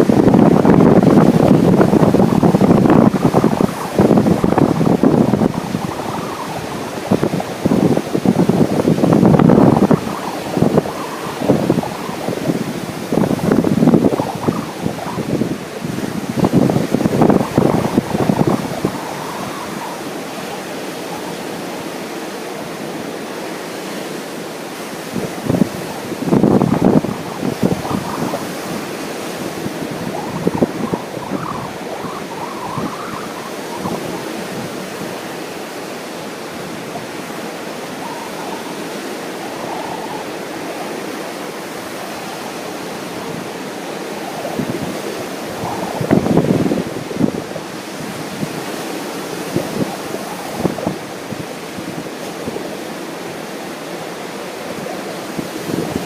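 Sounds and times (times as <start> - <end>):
ocean surf: 0.0 - 56.0
wind buffeting microphone: 0.0 - 56.0.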